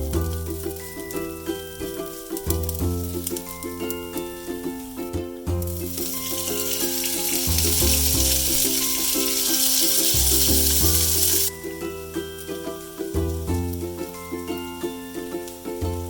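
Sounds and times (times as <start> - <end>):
background music: 0.0 - 16.0
food sizzling in a pan: 0.2 - 16.0.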